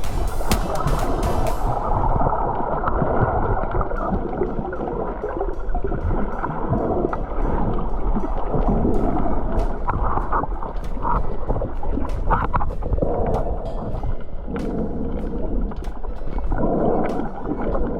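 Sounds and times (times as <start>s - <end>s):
muffled water rushing and gurgling: 0.0s - 17.9s.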